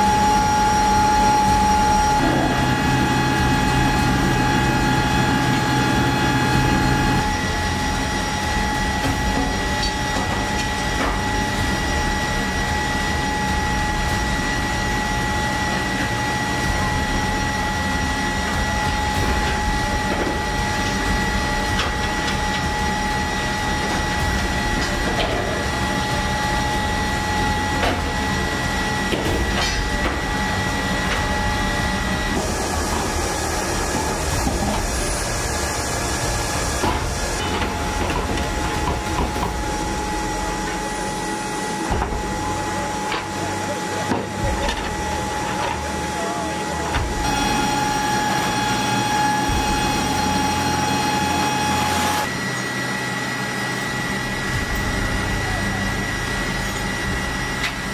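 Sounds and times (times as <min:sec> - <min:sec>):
aircraft turbine whine: 0:00.0 - 0:43.8, 0:45.0 - 0:57.9.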